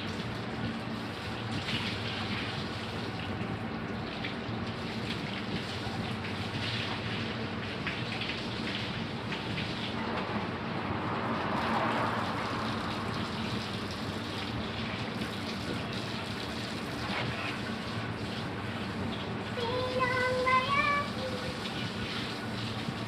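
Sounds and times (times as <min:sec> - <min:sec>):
water running and splashing: 0:00.0 - 0:23.0.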